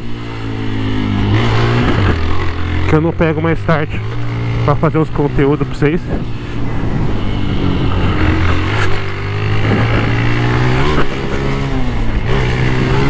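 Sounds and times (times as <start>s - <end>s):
motorcycle engine while riding: 0.0s - 13.0s.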